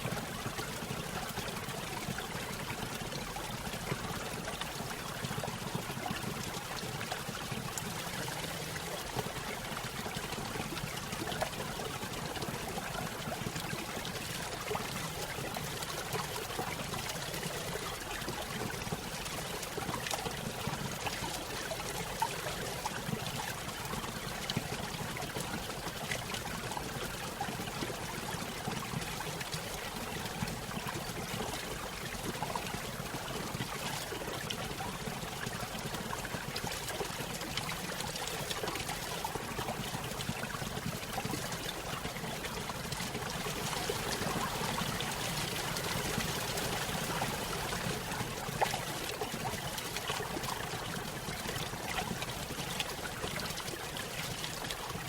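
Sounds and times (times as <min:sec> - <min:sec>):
stream splashing and trickling: 0:00.0 - 0:55.0.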